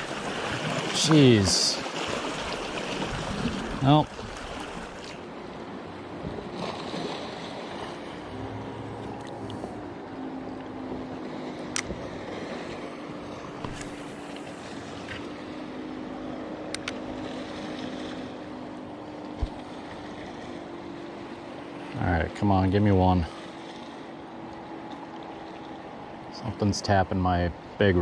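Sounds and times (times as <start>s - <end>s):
low hum: 0.0s - 28.0s
small waves washing ashore: 0.0s - 28.0s.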